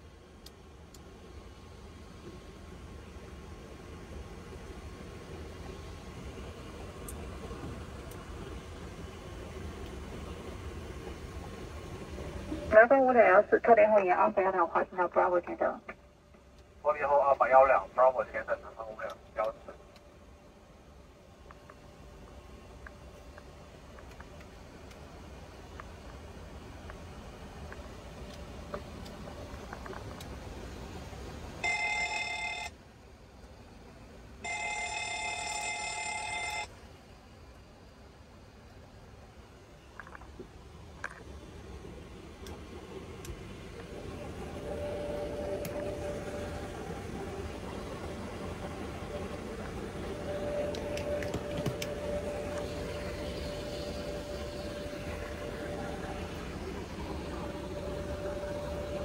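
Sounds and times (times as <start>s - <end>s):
cockpit fans hiss and rumble: 0.0s - 59.0s
low flight deck hum: 0.0s - 59.0s.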